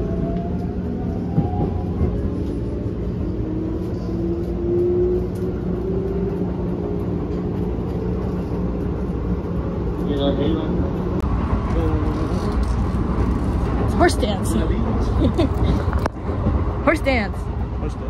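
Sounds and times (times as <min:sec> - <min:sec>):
train rumble inside carriage: 0:00.0 - 0:18.0.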